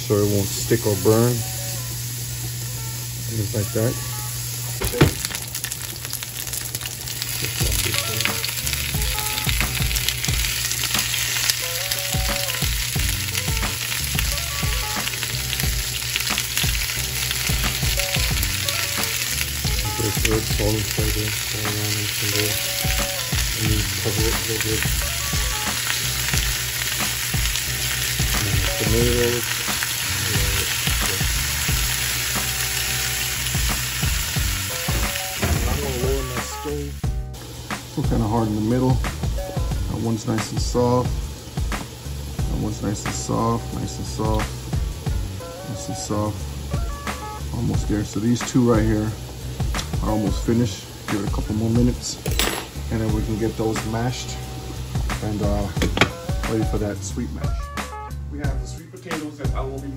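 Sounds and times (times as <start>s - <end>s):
food sizzling in a frying pan: 0.0s - 58.6s.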